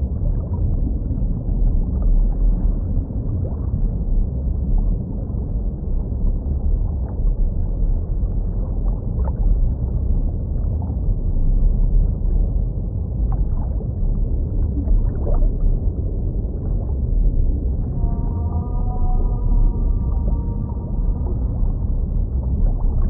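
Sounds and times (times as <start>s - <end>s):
muffled underwater rumble: 0.0s - 23.0s.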